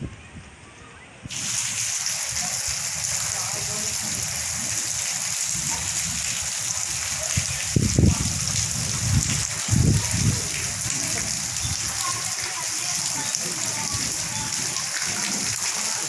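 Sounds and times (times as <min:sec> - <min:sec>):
heavy rain pouring: 0:01.3 - 0:16.0.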